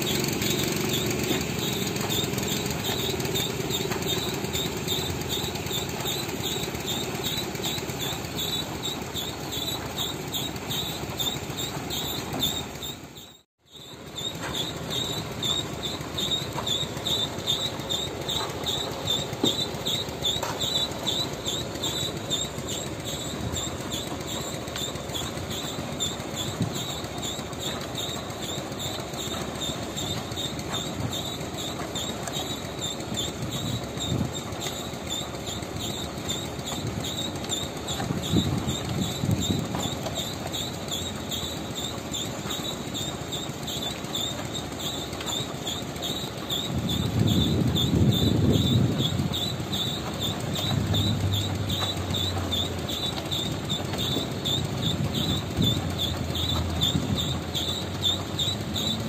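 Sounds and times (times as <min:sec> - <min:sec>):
concrete mixer truck rumble: 0:00.0 - 0:59.0
high-pitched chirping: 0:00.0 - 0:59.0.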